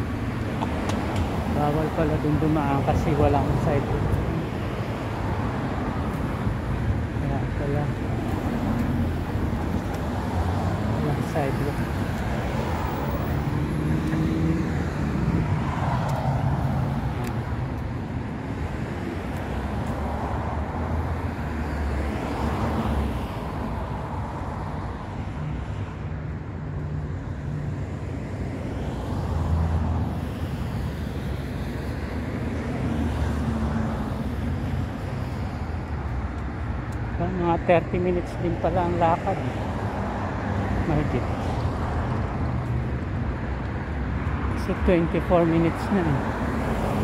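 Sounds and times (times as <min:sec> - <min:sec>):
cars driving past: 0:00.0 - 0:47.0.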